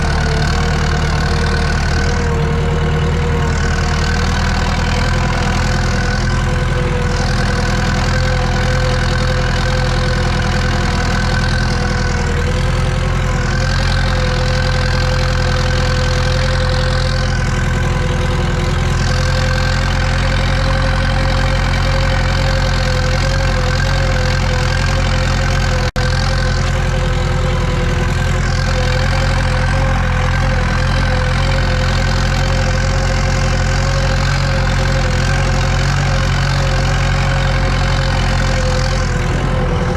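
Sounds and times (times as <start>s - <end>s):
constant whine: 0.0s - 39.9s
tractor diesel engine drone: 0.0s - 39.9s.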